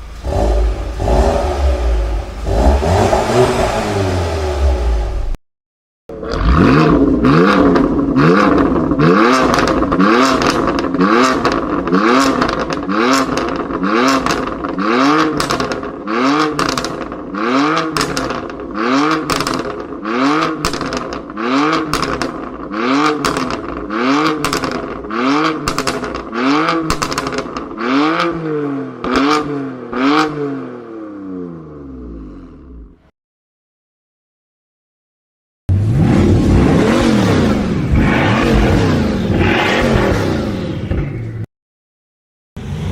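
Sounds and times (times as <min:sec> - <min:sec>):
car engine revving: 0:00.0 - 0:05.4, 0:06.1 - 0:33.0, 0:35.7 - 0:41.5.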